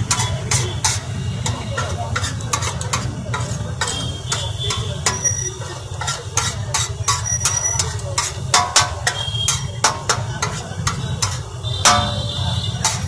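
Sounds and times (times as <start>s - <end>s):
metal spatula scraping griddle: 0.0s - 13.0s.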